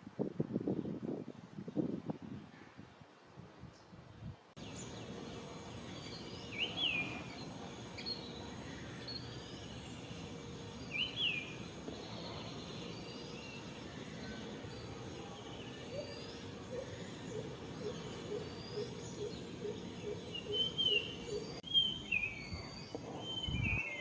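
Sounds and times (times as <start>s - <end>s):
outdoor background hiss: 0.0s - 24.0s
bird calling: 4.6s - 24.0s.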